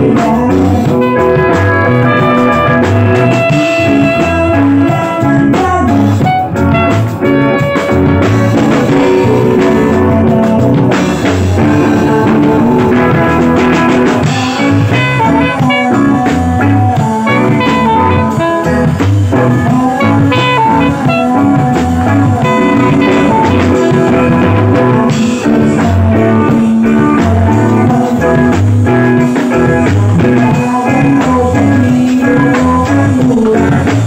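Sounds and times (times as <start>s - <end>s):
alto saxophone melody: 0.0s - 34.0s
reggae band playing: 0.0s - 34.0s.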